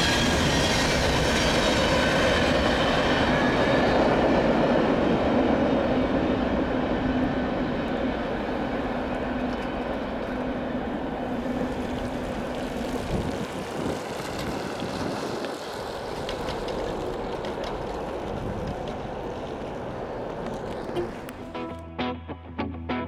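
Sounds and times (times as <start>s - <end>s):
freight train rumbling past: 0.0s - 21.8s.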